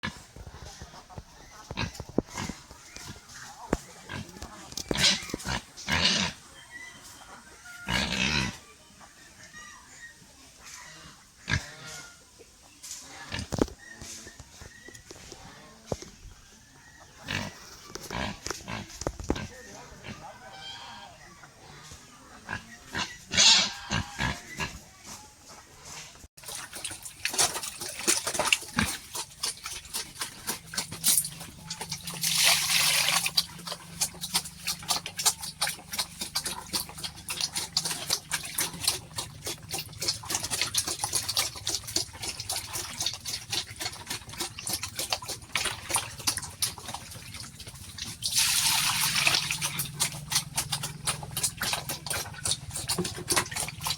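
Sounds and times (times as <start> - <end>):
pigs grunting: 0.0 - 6.6, 7.6 - 8.8, 10.9 - 12.3, 17.1 - 25.0, 25.8 - 53.9.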